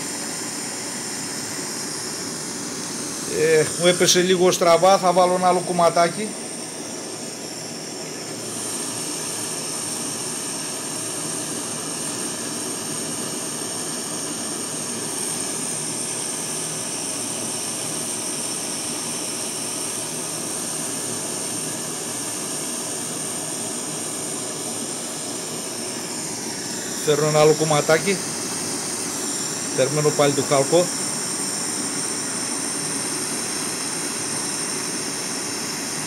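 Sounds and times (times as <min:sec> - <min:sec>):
propane torch hissing: 0:00.0 - 0:36.0.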